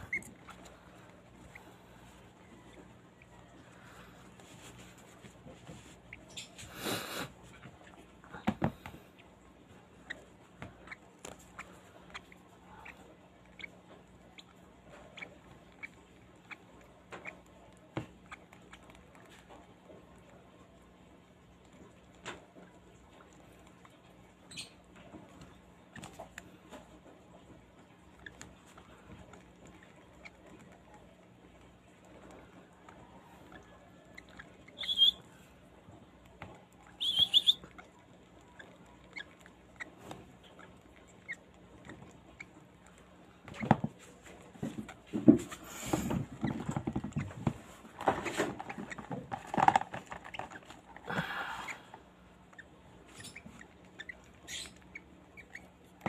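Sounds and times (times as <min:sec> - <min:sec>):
parrot chicks squeaky chirps: 0:00.0 - 0:04.8, 0:05.7 - 0:06.7, 0:07.4 - 0:22.4, 0:23.0 - 0:51.0, 0:51.6 - 0:56.0
bird feeding sounds: 0:00.0 - 0:56.0.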